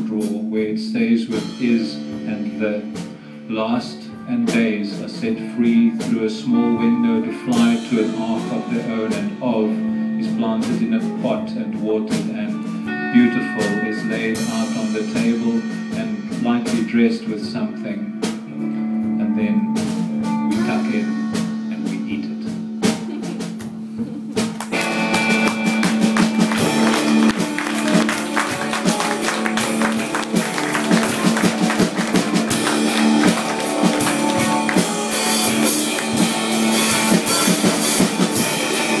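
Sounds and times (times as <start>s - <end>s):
live band with electric guitar: 6.0s - 39.0s.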